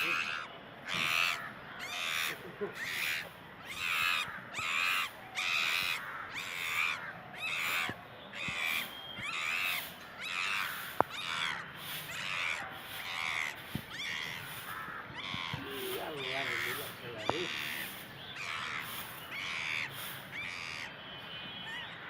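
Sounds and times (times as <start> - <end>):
bird harsh calls: 0.0 - 22.0.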